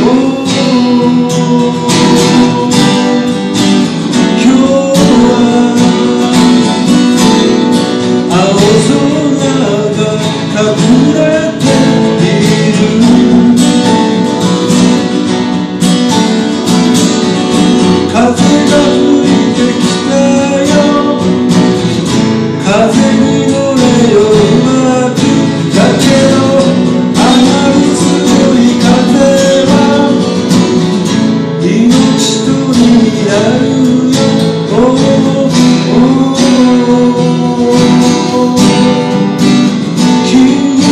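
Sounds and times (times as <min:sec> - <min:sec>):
acoustic guitars playing: 0:00.0 - 0:40.9
man singing: 0:00.0 - 0:40.9.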